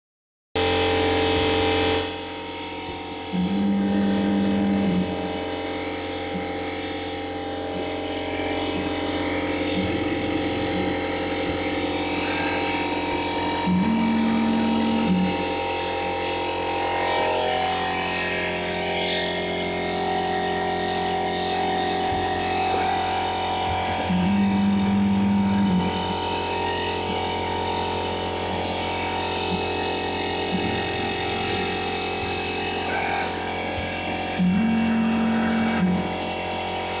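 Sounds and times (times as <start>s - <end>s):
lathe motor hum and whine: 0.6s - 37.0s.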